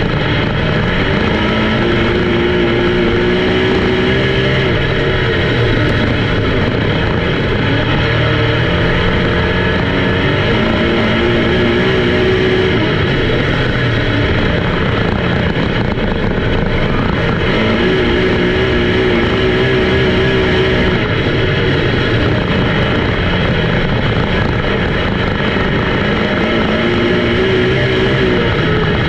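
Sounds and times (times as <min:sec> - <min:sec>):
race car engines roaring: 0:00.0 - 0:29.0.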